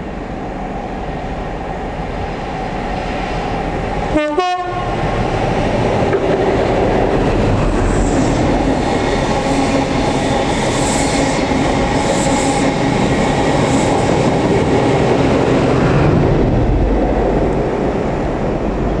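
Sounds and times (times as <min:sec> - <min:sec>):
diesel train engine: 0:00.0 - 0:19.0
wheels rushing on rail: 0:00.0 - 0:19.0.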